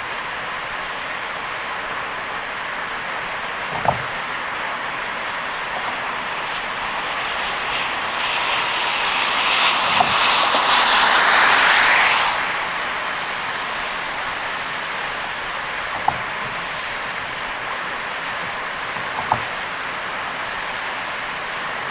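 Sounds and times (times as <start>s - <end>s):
heavy rain: 0.0s - 21.9s
wet-road tyre noise: 0.0s - 21.9s.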